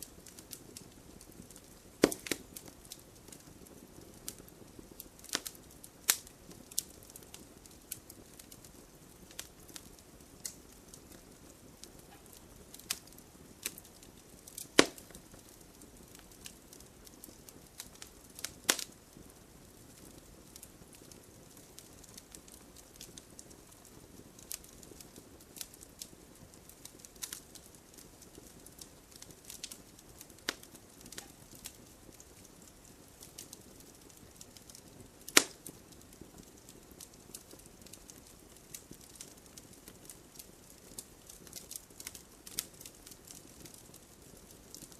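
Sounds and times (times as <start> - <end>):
campfire wood crackling: 0.0 - 44.9
fire hissing: 0.0 - 44.9.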